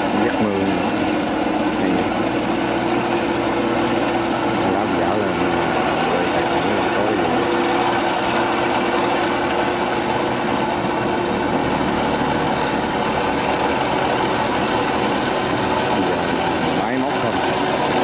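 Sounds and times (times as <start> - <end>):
tractor engine running under load: 0.0 - 18.0.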